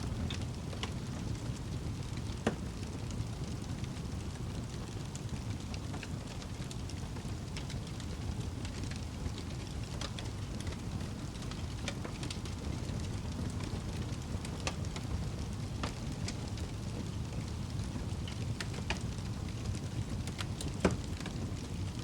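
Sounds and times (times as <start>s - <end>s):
burning logs crackling and popping: 0.0s - 22.0s
fire flames rumbling: 0.0s - 22.0s.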